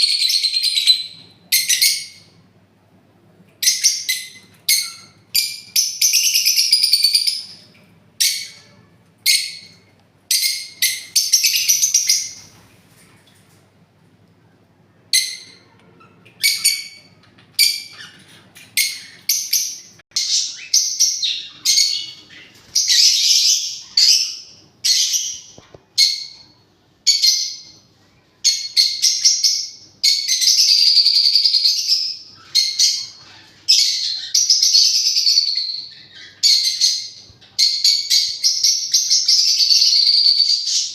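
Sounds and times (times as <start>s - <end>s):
parrots calling: 0.0s - 2.4s, 3.6s - 12.6s, 15.1s - 27.8s, 28.5s - 40.9s.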